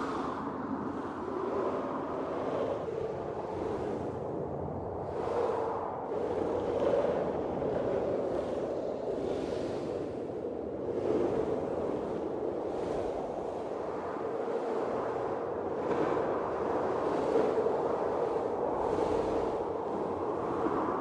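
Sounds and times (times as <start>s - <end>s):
gusting blizzard wind: 0.0s - 21.0s.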